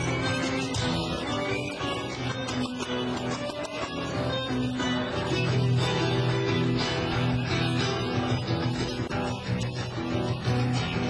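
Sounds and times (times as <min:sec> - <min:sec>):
guitar instrumental music: 0:00.0 - 0:11.0.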